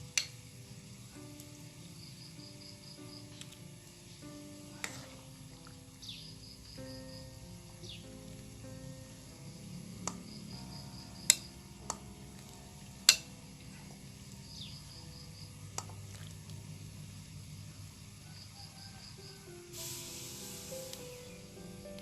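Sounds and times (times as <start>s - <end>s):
faint music: 0.0s - 22.0s
high insect chirping: 0.0s - 22.0s.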